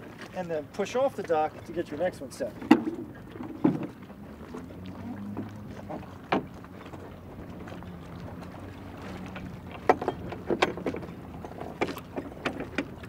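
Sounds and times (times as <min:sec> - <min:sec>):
wooden oars knocking on rowboat: 0:00.0 - 0:13.0.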